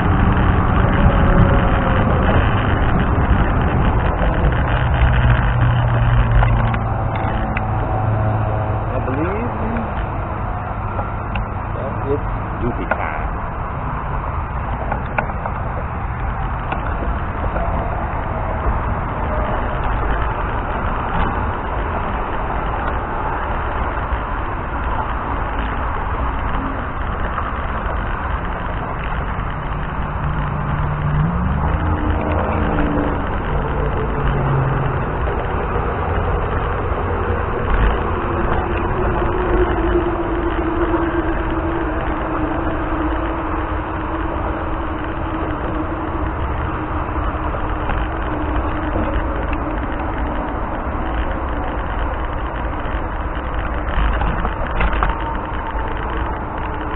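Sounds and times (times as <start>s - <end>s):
scooter engine: 0.0s - 56.9s
second engine passing: 0.0s - 56.9s
wind buffeting microphone: 0.0s - 56.9s.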